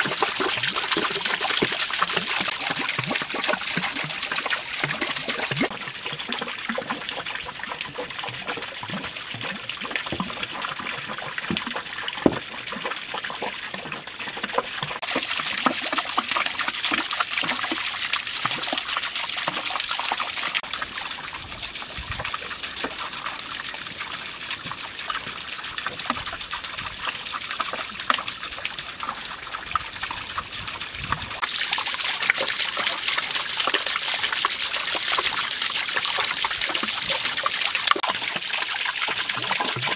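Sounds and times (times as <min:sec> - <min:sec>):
water drips: 0:00.0 - 0:39.9
water pouring from bamboo spouts: 0:00.0 - 0:39.9
water splashing into pond: 0:00.0 - 0:39.9.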